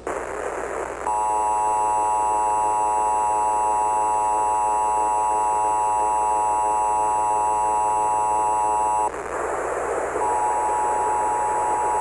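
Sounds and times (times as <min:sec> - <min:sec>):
distorted two-tone alarm: 0:01.0 - 0:09.1, 0:10.2 - 0:12.0.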